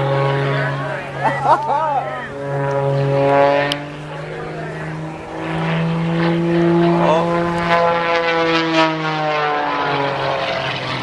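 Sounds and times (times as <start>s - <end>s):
propeller plane engine: 0.0s - 11.0s.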